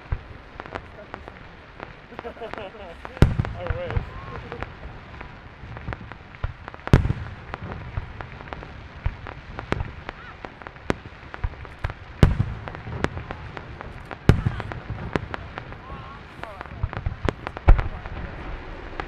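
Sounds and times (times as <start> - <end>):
firework pops and crackles: 0.0 - 19.0
firework shells booming: 0.0 - 19.0.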